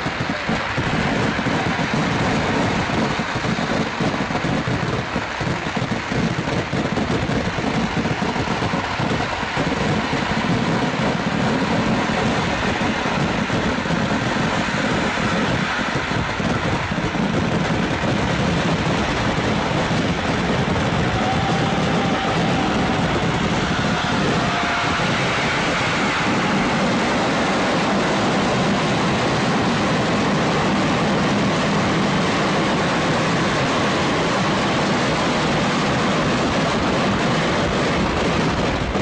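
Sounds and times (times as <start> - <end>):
firecracker barrage: 0.0 - 39.0.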